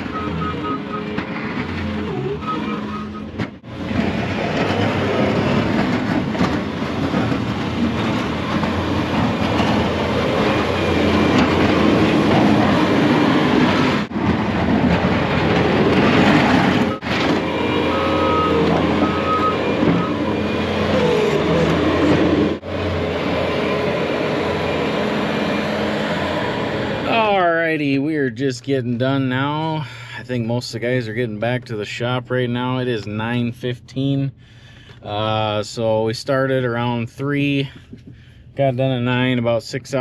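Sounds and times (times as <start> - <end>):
road noise: 0.0 - 40.0
truck engine rumble: 0.0 - 40.0.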